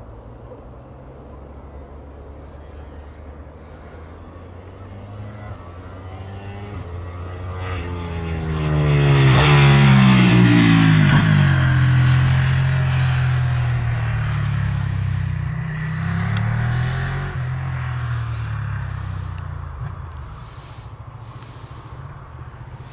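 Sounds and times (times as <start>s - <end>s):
motorcycle engine passing by: 1.6s - 22.9s.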